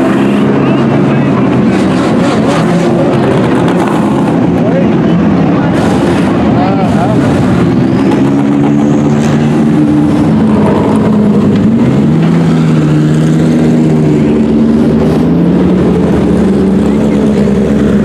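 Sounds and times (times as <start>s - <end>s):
race car engines at low revs: 0.0s - 18.0s.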